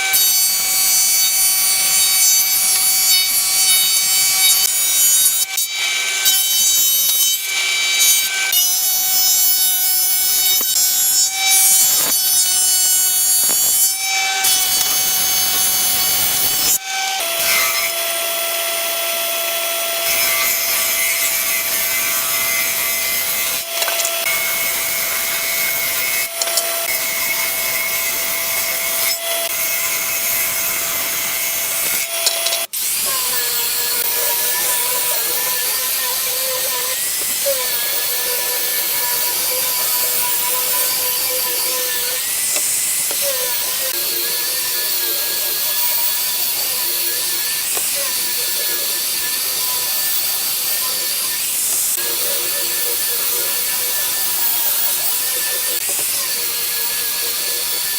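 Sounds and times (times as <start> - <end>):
power saw cutting wood: 0.0 - 57.9.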